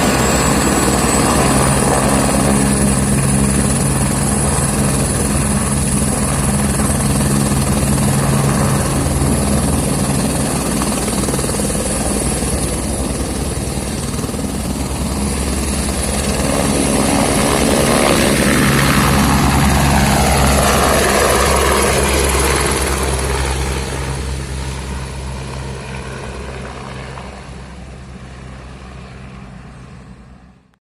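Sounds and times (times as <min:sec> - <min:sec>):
helicopter rotor and turbine: 0:00.0 - 0:30.8.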